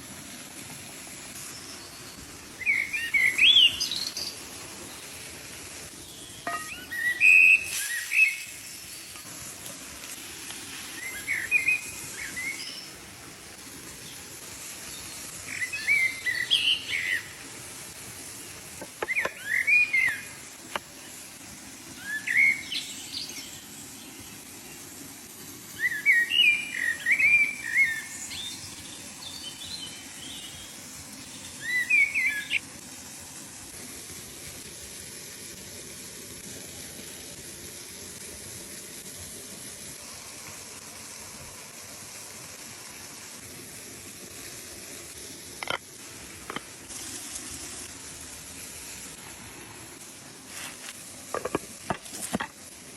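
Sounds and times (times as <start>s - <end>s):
faint background hiss: 0.0s - 52.9s.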